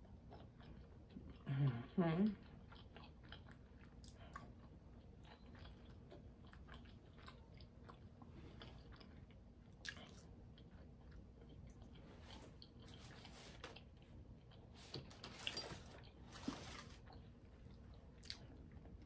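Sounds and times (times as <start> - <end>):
chewing and biting food: 0.0 - 1.5, 2.4 - 19.0.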